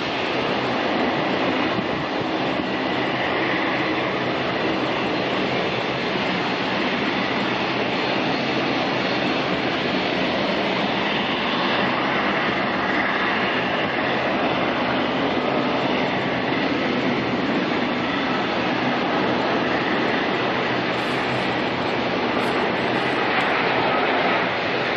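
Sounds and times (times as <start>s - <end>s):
jet engines running: 0.0s - 24.9s.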